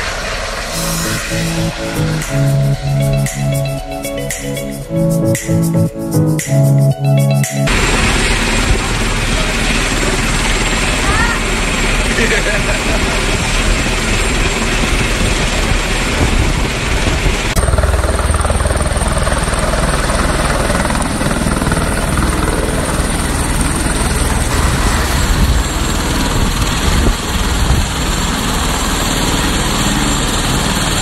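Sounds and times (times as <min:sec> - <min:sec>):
helicopter flying: 0:00.0 - 0:31.0.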